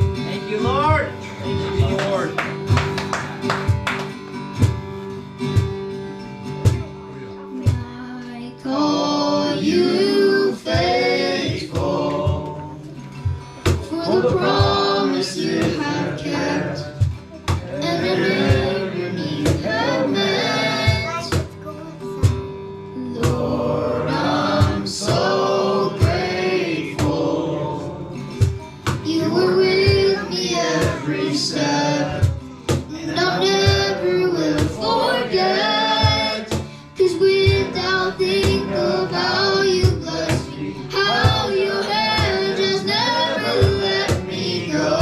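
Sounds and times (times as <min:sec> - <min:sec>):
instruments with steady beat: 0:00.0 - 0:08.0, 0:09.8 - 0:45.0
voices singing together: 0:08.5 - 0:45.0.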